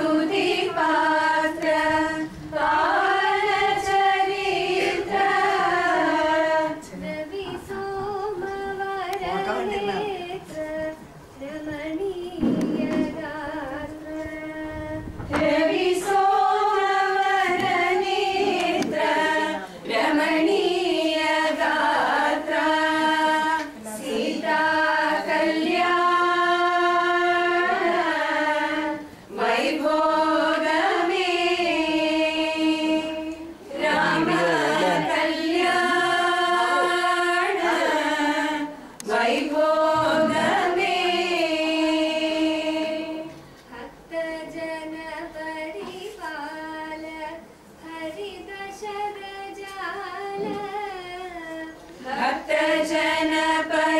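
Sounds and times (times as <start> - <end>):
women singing together: 0.0 - 53.9.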